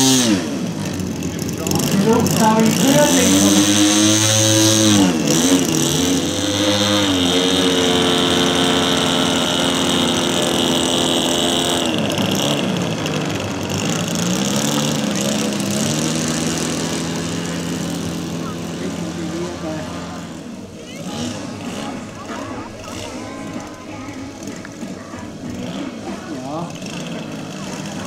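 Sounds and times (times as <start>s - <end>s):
model airplane engines in flight: 0.0s - 28.0s.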